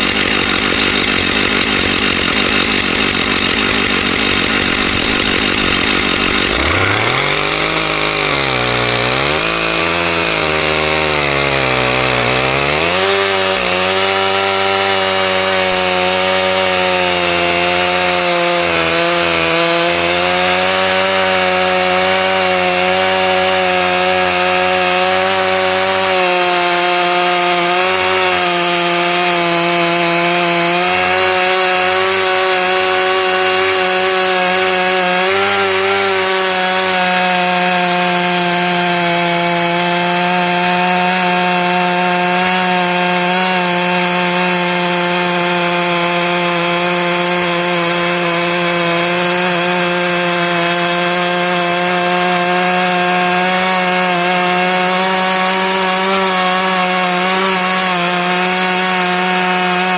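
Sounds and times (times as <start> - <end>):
chainsaw ripping along a log: 0.0 - 59.9.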